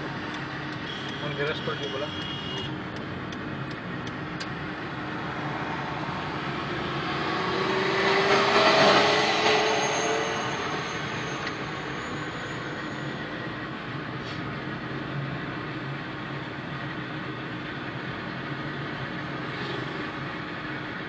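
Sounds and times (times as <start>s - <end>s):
road noise inside moving car: 0.0s - 21.0s.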